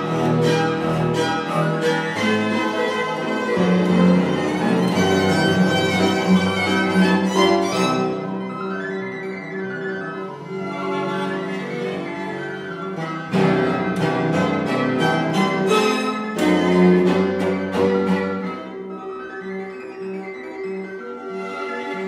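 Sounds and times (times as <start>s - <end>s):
piano trio playing: 0.0s - 22.0s.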